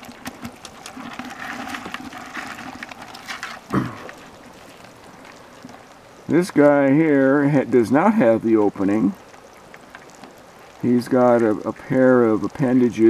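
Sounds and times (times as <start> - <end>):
crayfish clicking and scrabbling: 0.0 - 13.0.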